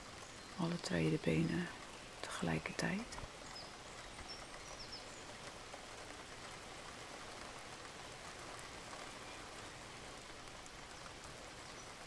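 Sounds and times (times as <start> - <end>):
soft rain falling: 0.0 - 12.0.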